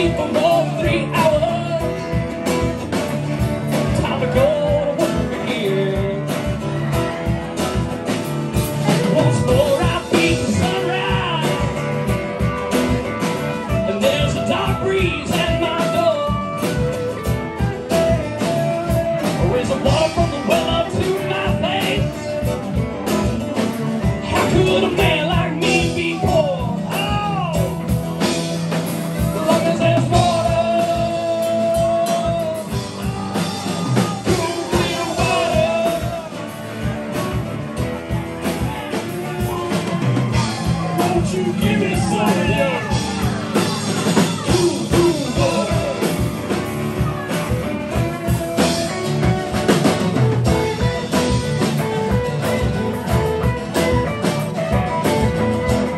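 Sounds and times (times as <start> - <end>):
person singing: 0.0 - 7.5, 8.6 - 55.9
acoustic guitar: 0.0 - 55.9
drum kit beat: 0.0 - 55.9
electric bass: 0.0 - 55.9
electric guitar: 0.0 - 55.9
rock band playing: 0.0 - 55.9.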